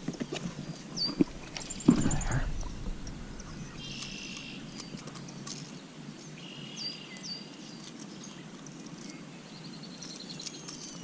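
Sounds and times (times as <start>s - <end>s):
birds calling: 0.0s - 11.0s
faint outdoor background: 0.0s - 11.0s.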